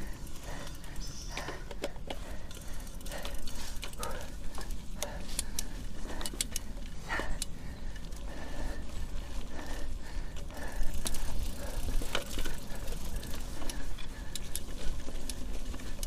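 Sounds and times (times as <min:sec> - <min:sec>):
bike chain and frame rattling: 0:00.0 - 0:16.0
wind and tyre rumble: 0:00.0 - 0:16.0.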